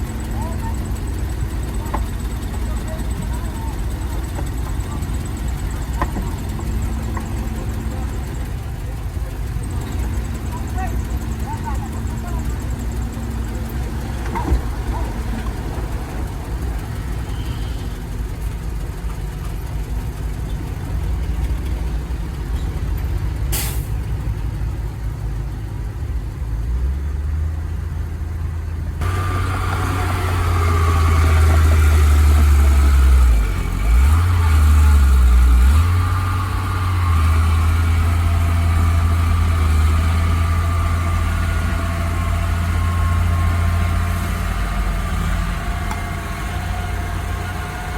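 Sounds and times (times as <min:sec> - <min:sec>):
heavy diesel engines rumbling: 0:00.0 - 0:47.9.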